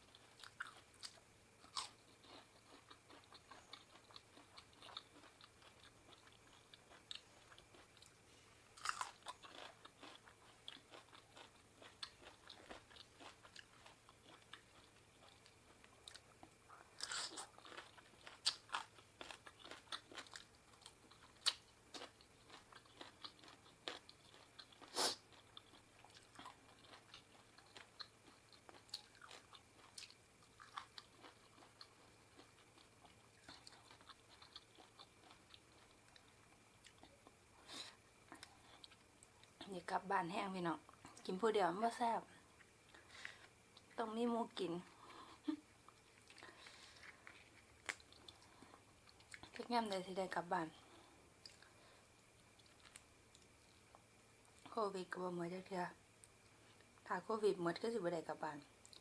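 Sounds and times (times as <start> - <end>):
person chewing and crunching: 0.0 - 37.4, 38.2 - 39.6, 45.0 - 49.7, 50.9 - 54.7, 58.8 - 59.0.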